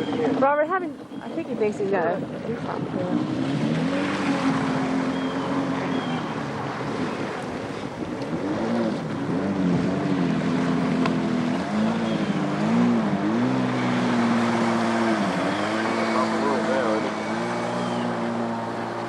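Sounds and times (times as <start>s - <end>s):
small watercraft engine running: 0.0s - 19.0s.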